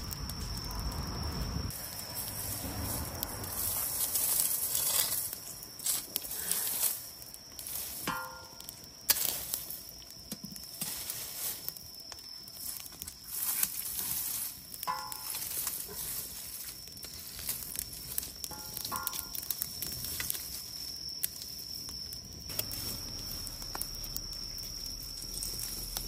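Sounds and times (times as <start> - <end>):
fire crackling and hissing: 0.0 - 26.0.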